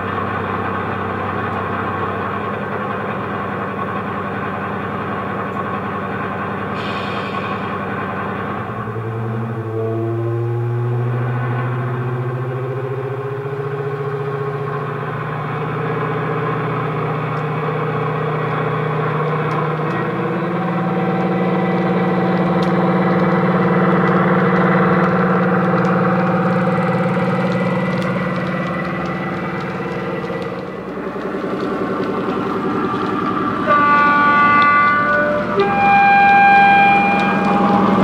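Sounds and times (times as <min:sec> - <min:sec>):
model diesel engine sound: 0:00.0 - 0:38.0.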